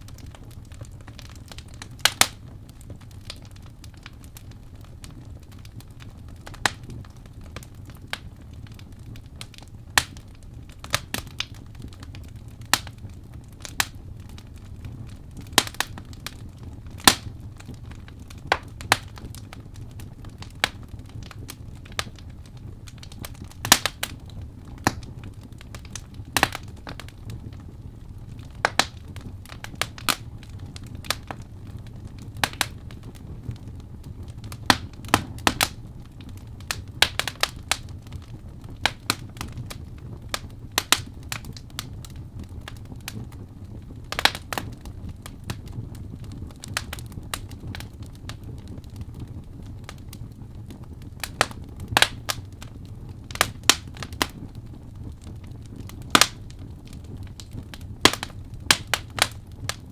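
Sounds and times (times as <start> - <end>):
low rumble of fire: 0.0 - 59.9
wood fire crackling: 0.0 - 59.9.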